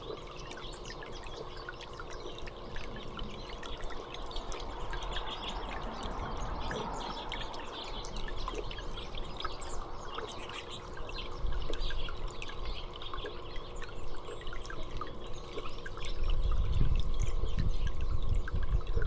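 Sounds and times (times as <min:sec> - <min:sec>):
small birds chirping: 0:00.0 - 0:18.6
water trickling and dripping: 0:00.0 - 0:19.0.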